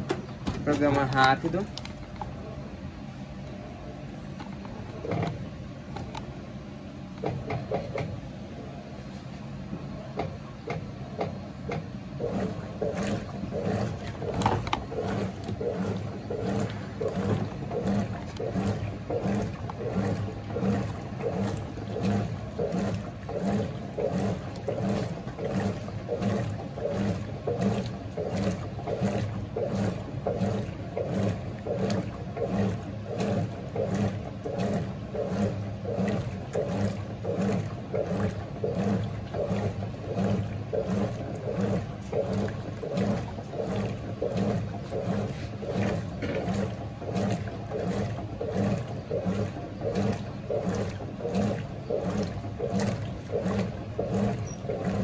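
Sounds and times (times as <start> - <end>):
motor hum: 0.0 - 55.0
washing machine water sloshing: 0.0 - 55.0.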